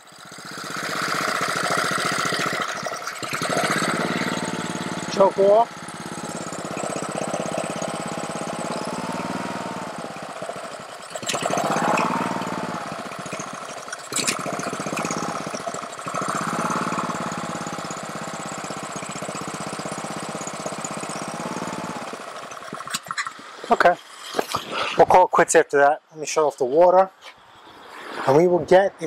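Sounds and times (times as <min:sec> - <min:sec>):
small engine running poorly: 0:00.0 - 0:25.3.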